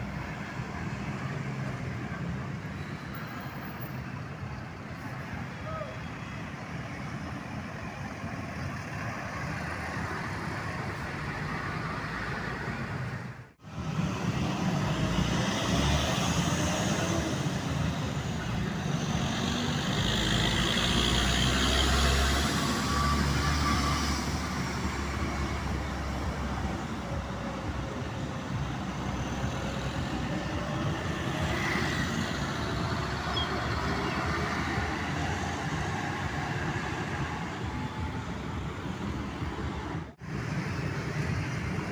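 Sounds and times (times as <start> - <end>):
road traffic passing: 0.0 - 41.9.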